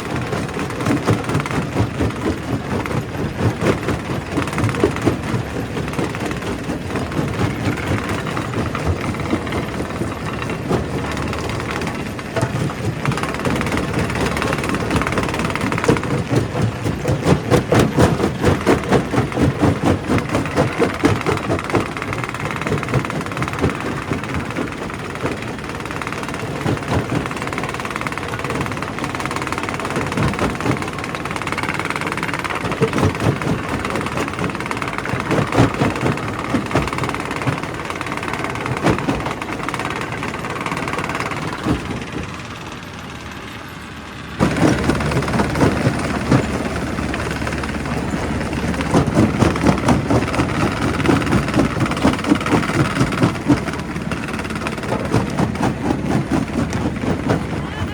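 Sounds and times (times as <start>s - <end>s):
rock crusher crushing stone: 0.0s - 42.8s, 44.4s - 57.9s
crusher machine running: 0.0s - 57.9s.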